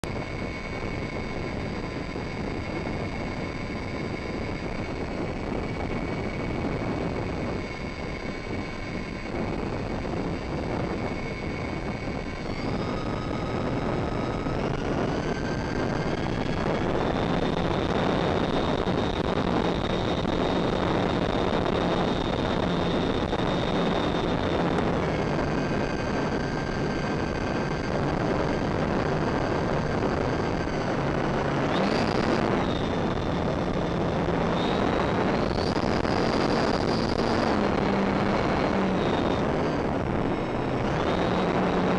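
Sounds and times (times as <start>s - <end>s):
electric motor and propeller whine: 0.0s - 41.9s
wind noise: 0.0s - 41.9s.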